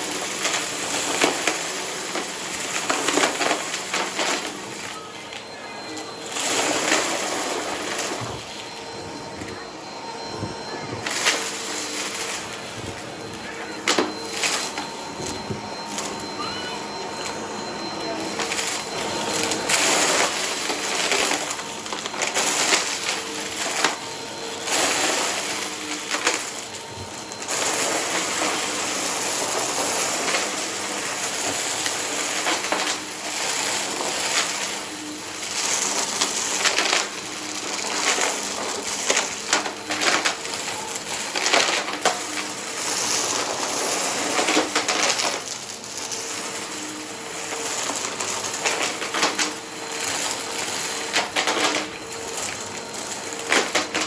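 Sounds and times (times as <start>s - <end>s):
vacuum motor hum: 0.0s - 54.0s.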